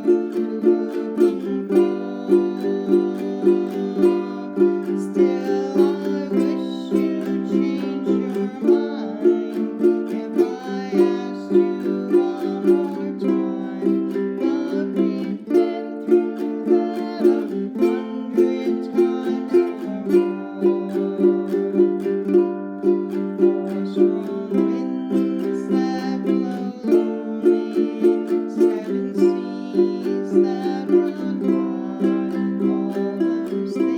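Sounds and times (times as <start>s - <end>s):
person singing: 0.0s - 33.9s
ukulele strumming: 0.0s - 33.9s.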